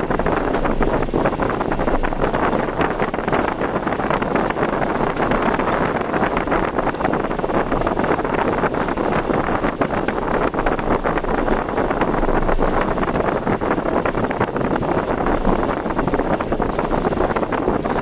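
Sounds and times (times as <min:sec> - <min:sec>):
wind and rain rushing: 0:00.0 - 0:18.0.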